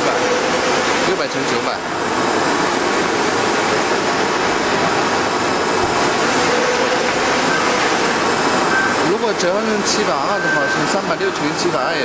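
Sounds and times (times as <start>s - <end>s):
printer machine rushing noise: 0.0s - 12.0s.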